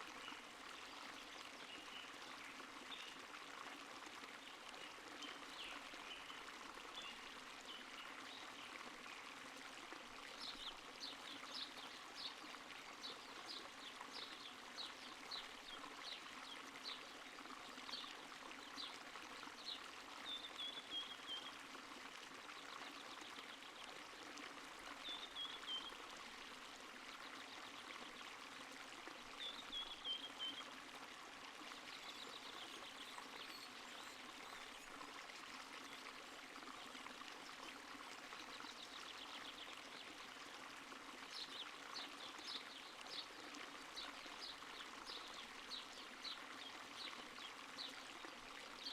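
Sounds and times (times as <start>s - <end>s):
stream trickling: 0.0s - 48.9s.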